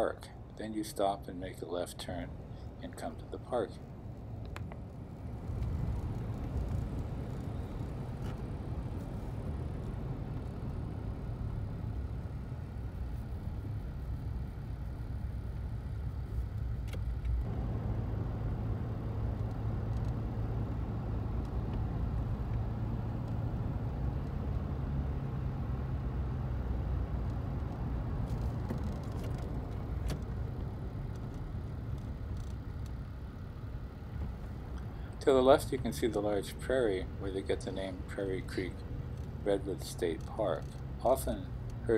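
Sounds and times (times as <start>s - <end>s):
car engine hum: 0.0s - 41.9s
road noise: 0.0s - 41.9s.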